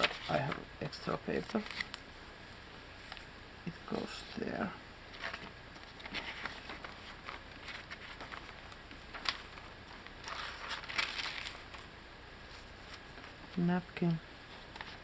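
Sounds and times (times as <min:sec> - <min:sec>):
paper pages rustling: 0:00.0 - 0:02.2, 0:03.0 - 0:03.3, 0:03.9 - 0:13.6, 0:14.4 - 0:15.0.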